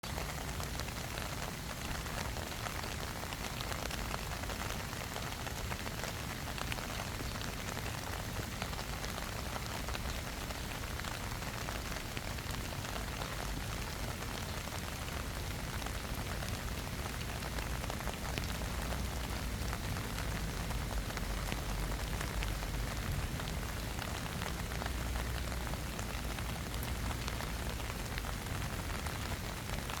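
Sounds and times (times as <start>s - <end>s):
rain falling on grass: 0.0s - 30.0s.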